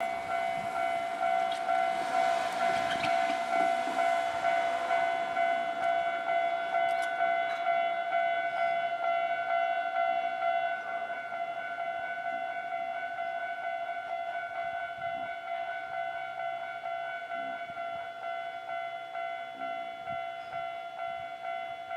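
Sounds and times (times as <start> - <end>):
level crossing warning bell: 0.0 - 21.9.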